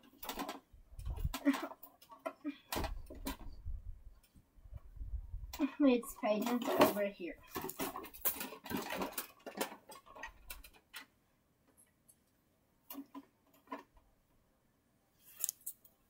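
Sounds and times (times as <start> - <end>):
toys clicking and rustling: 0.0 - 4.4, 5.5 - 14.1, 15.3 - 16.0.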